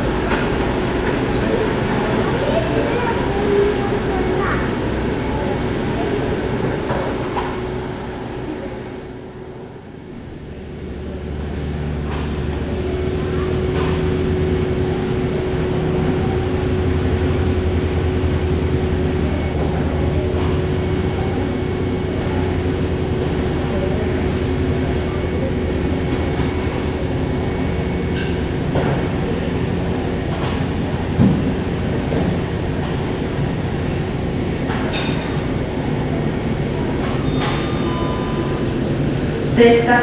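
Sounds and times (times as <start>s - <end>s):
aircraft engines droning: 0.0s - 40.0s.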